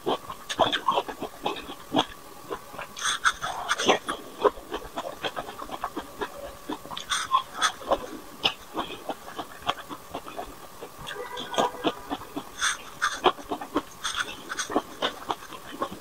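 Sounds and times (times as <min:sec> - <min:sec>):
chewing with wet smacks: 0:00.0 - 0:16.0.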